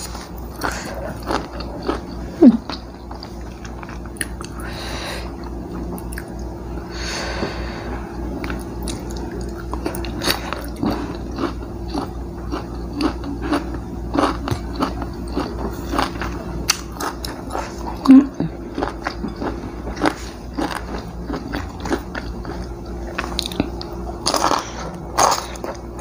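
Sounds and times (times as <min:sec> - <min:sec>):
crunching fried food: 0:00.0 - 0:04.6, 0:08.4 - 0:26.0.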